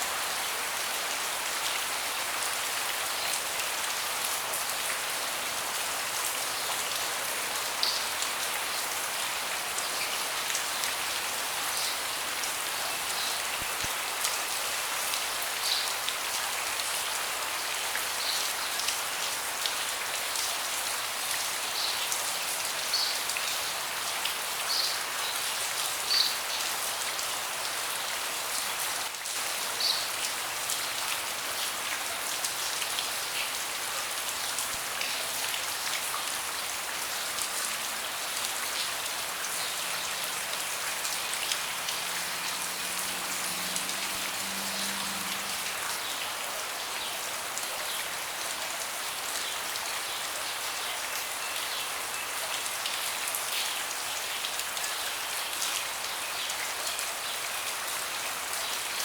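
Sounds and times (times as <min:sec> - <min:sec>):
rain on a deck: 0:00.0 - 0:59.0.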